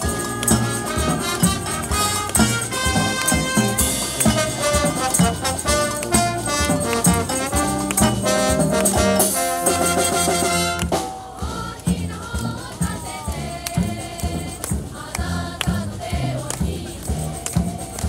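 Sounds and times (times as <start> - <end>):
brass band with drum kit: 0.0 - 18.0.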